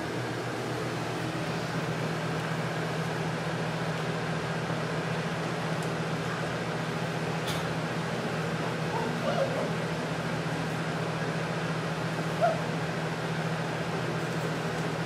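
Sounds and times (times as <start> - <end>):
box fan humming: 0.0 - 15.0.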